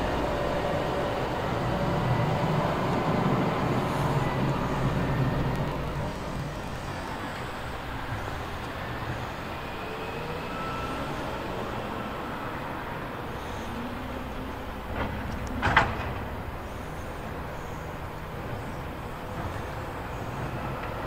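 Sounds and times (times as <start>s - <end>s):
diesel wheel loader running: 0.0s - 21.0s.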